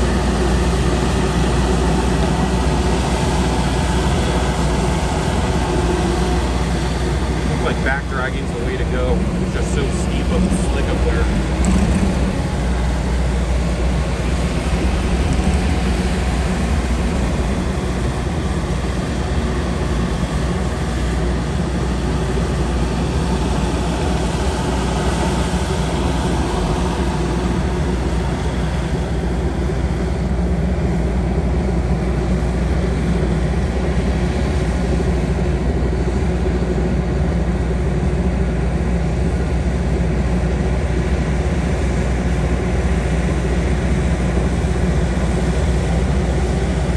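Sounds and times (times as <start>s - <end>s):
diesel engine running under load: 0.0s - 46.9s.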